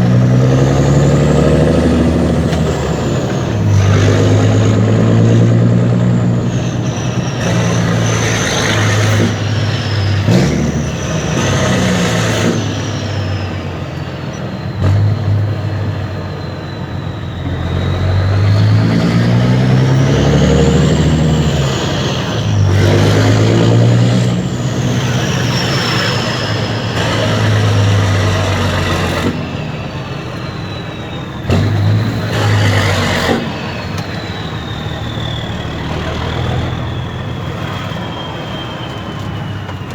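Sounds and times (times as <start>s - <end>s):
high whistle: 0.0s - 39.9s
truck diesel engine revving: 0.0s - 39.9s.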